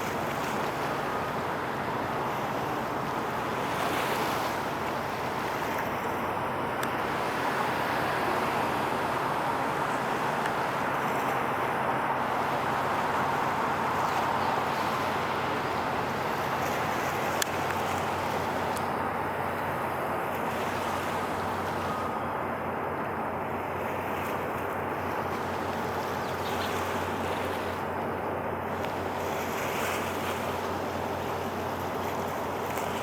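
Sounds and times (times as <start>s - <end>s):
constant low hum: 0.0s - 33.0s
water noise: 0.0s - 33.0s
wind: 0.0s - 33.0s.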